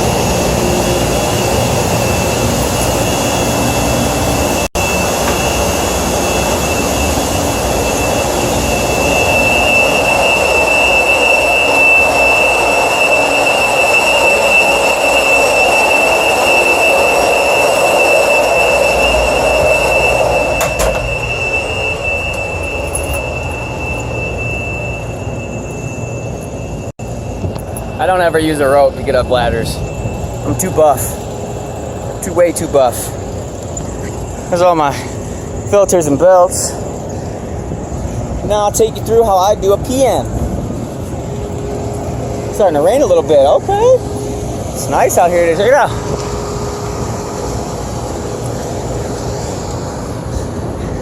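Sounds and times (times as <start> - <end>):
machinery with high-pitched whine: 0.0 - 51.0.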